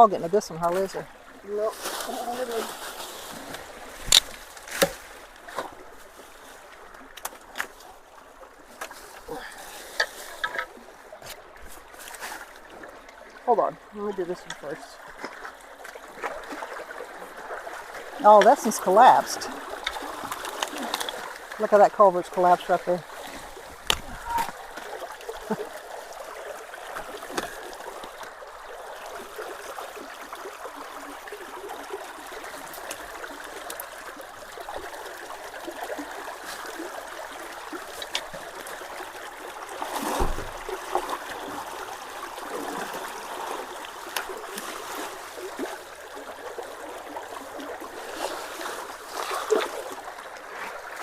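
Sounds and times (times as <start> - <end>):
water trickling through culvert: 0.0 - 51.0.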